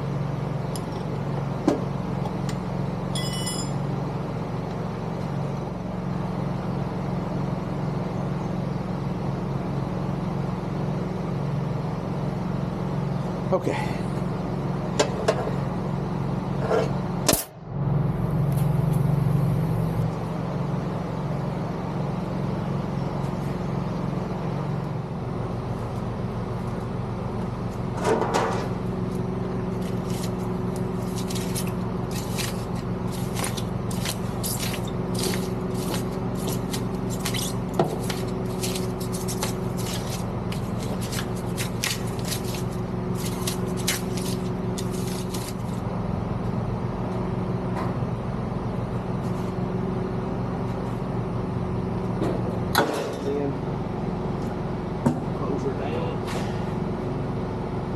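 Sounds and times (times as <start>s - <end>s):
engine-like mechanical hum: 0.0s - 57.9s.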